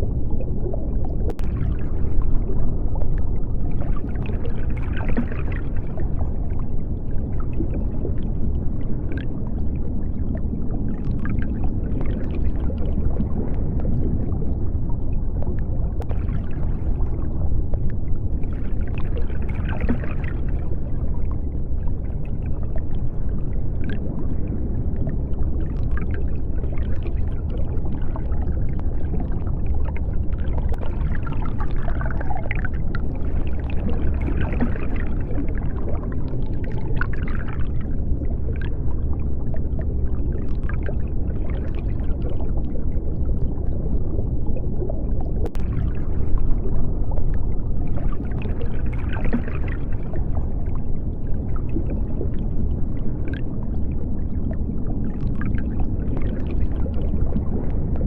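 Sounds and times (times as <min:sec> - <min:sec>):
underwater rumble and bubbling: 0:00.0 - 0:58.0.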